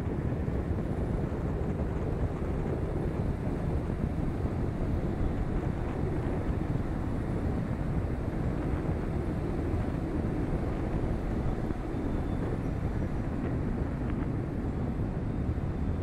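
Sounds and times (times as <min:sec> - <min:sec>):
car road noise and wind rush: 0:00.0 - 0:16.0
wind buffeting microphone: 0:00.0 - 0:16.0.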